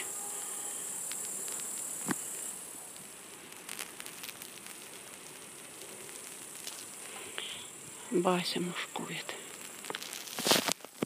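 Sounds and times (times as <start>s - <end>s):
faint ticks and crackles: 0.0s - 11.0s
insects chirring: 0.0s - 11.0s.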